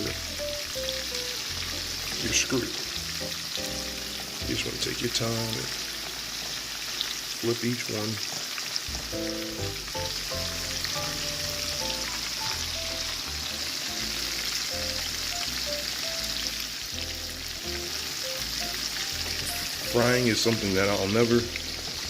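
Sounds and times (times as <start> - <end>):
background music: 0.0 - 6.7, 8.9 - 22.0
shrimp sizzling in pan: 0.0 - 22.0.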